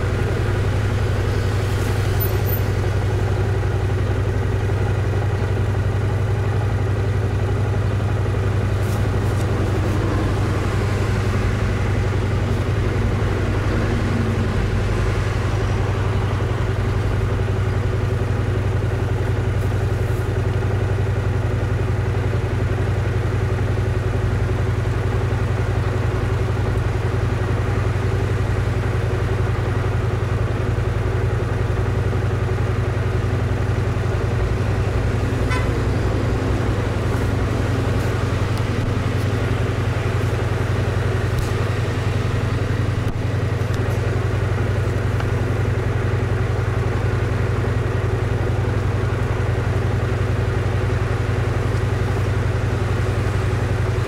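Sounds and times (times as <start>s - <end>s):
motorcycle engine idling: 0.0s - 54.0s
road traffic passing: 0.0s - 54.0s.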